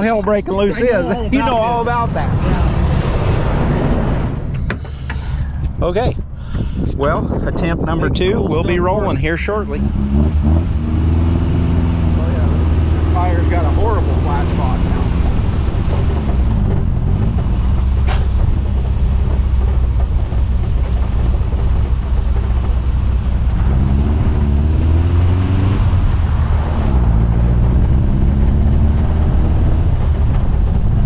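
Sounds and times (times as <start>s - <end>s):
car engine revving: 0.0s - 6.4s, 7.6s - 31.0s.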